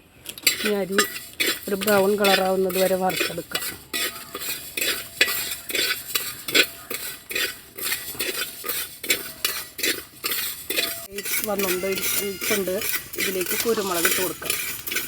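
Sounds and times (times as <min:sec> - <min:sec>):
rice scraping in metal pan: 0:00.4 - 0:15.0.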